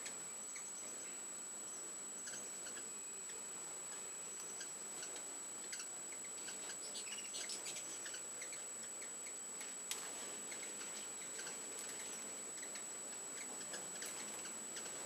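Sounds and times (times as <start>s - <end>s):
hummingbirds chipping: 0.0s - 15.0s
steady high-pitched whine: 0.0s - 15.0s.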